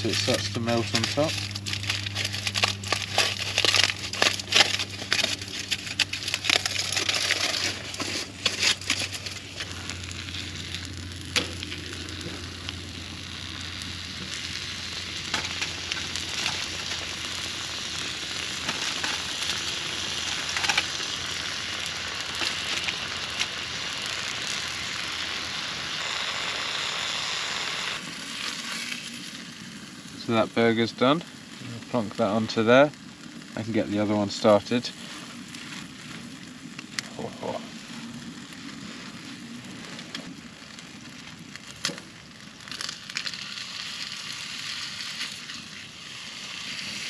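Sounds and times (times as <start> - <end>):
aluminium foil crinkling: 0.0 - 26.4, 28.0 - 47.0
burger patty sizzling in a frying pan: 0.0 - 47.0.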